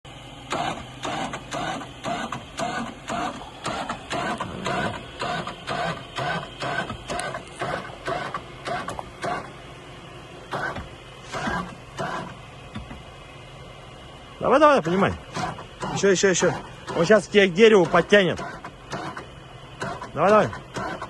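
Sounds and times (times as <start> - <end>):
hand winch ratcheting: 0.5 - 9.5, 10.5 - 12.9, 14.8 - 21.0.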